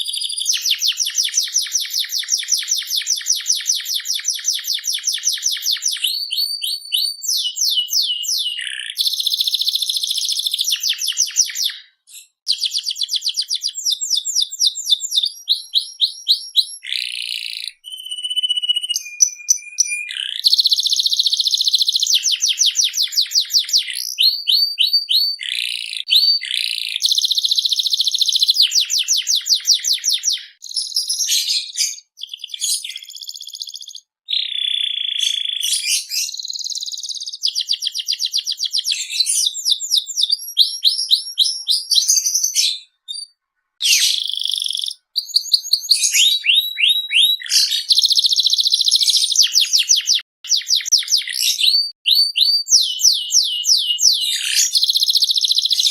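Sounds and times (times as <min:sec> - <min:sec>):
canary singing: 0:00.0 - 0:55.9.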